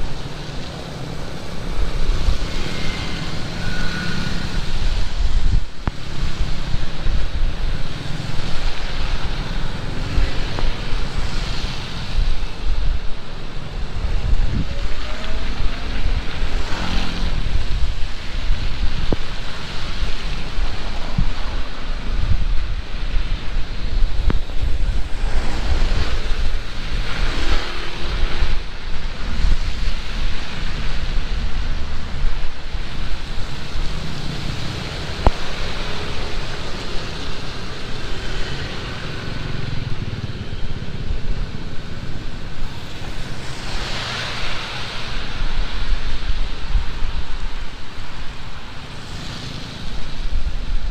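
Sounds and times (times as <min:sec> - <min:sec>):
heavy rain falling: 0:00.0 - 0:50.9
wind buffeting microphone: 0:00.0 - 0:50.9.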